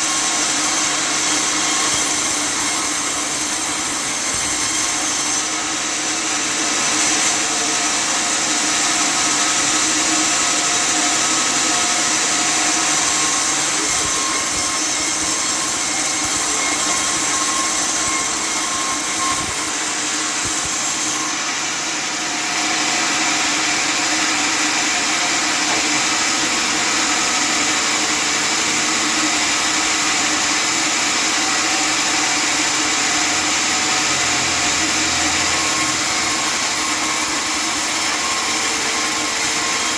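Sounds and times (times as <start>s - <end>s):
sawmill cutting wood: 0.0s - 39.9s.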